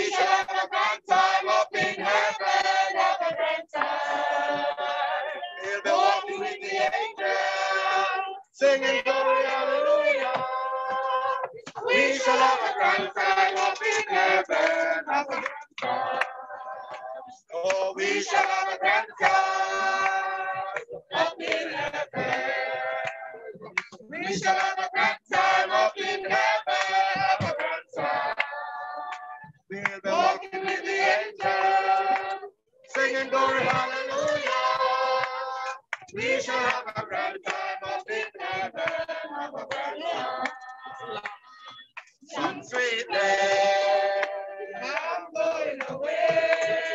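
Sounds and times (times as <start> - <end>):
group singing gospel chorus: 0.0 - 46.9.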